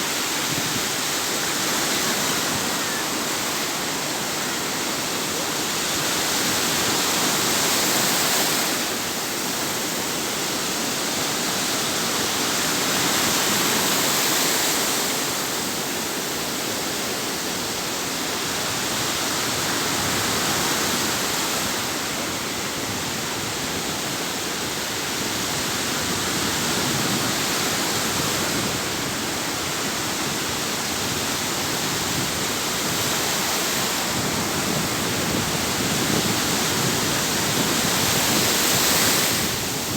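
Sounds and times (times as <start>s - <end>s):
surf rushing: 0.0s - 39.9s.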